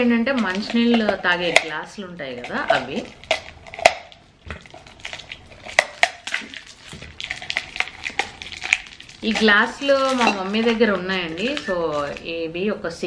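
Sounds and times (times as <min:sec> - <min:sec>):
metal tumblers clinking: 0:00.0 - 0:12.3
wrapping rustling: 0:00.2 - 0:12.4.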